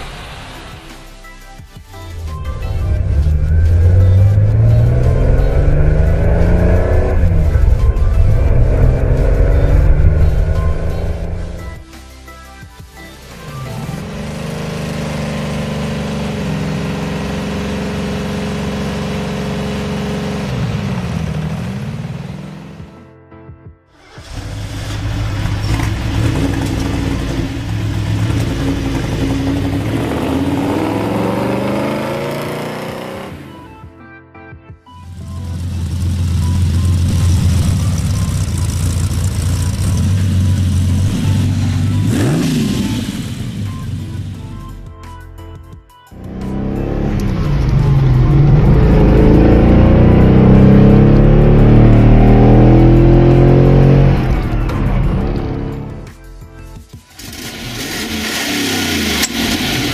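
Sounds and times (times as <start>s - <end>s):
background music: 0.0s - 18.7s, 22.3s - 59.4s
car engine running: 2.0s - 11.9s, 13.5s - 22.9s, 24.1s - 33.6s, 35.1s - 44.7s, 46.2s - 56.1s.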